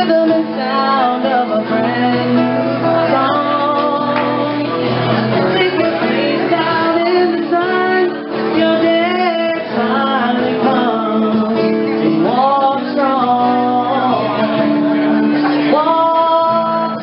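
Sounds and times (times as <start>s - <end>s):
woman singing: 0.0s - 14.7s, 15.5s - 17.0s
acoustic guitar strumming: 0.0s - 17.0s.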